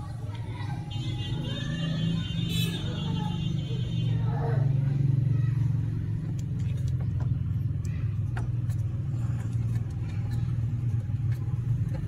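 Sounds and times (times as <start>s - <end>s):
motorcycle engine idling: 0.8s - 12.0s.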